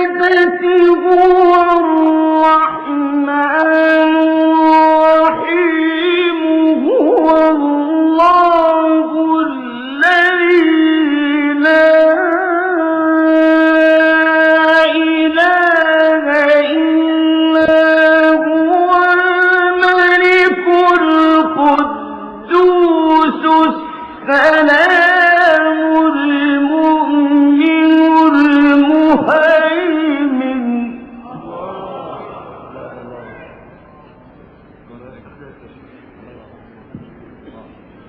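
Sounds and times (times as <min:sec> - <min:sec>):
man chanting melodically: 0:00.0 - 0:34.2.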